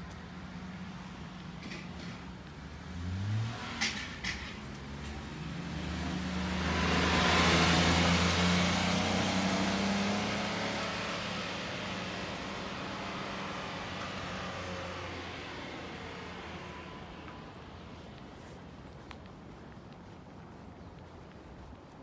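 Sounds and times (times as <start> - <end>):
car passing by: 1.0 - 21.1.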